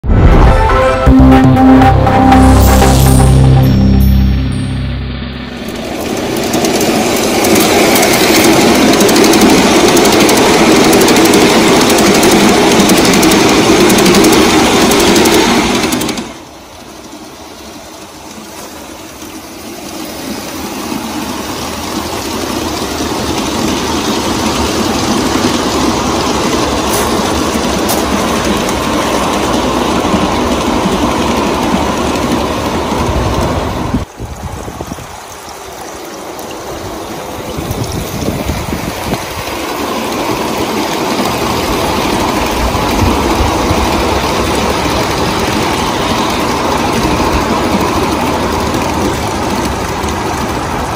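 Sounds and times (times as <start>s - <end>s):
wheels rolling on rails: 5.7s - 50.9s.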